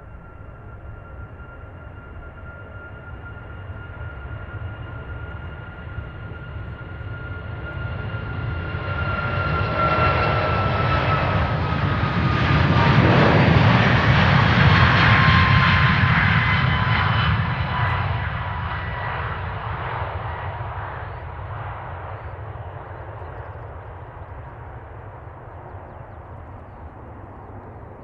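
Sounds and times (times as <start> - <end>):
jet engines at takeoff thrust: 0.0 - 28.0.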